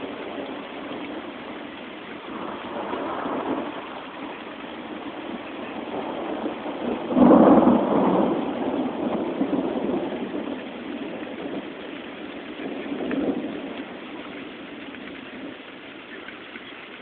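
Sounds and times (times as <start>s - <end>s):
thunder rumbling: 0.0s - 15.7s
steady rain: 0.0s - 17.0s.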